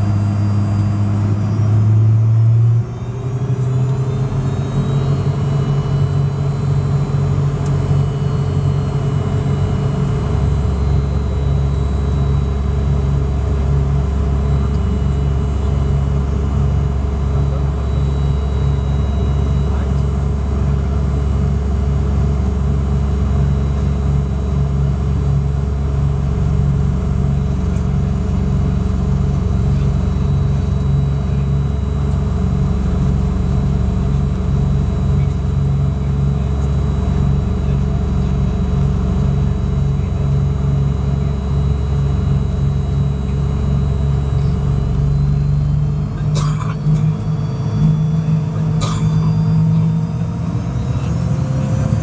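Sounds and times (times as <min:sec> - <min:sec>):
jet engines rumbling and whining: 0:00.0 - 0:52.0.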